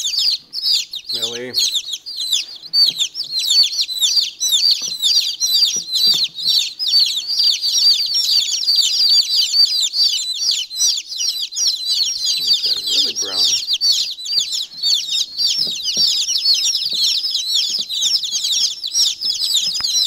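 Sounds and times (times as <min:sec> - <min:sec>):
baby chicks peeping: 0:00.0 - 0:20.0.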